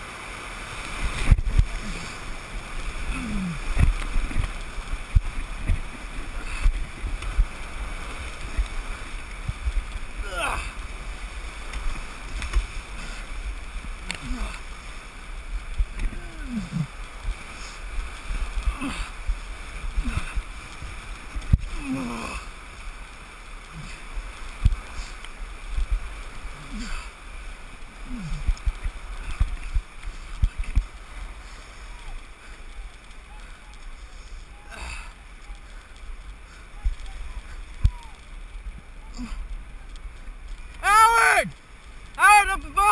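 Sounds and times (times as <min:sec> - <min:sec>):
water splashing against boat: 0:00.0 - 0:42.9
whitewater rapid rushing: 0:00.0 - 0:42.9.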